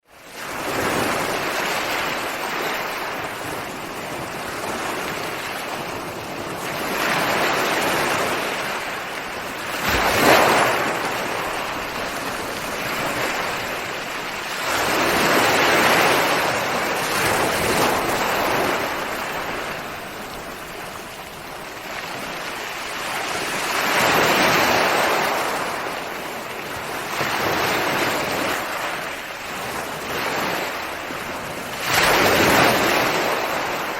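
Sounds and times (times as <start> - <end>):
ocean waves breaking: 0.1 - 33.9.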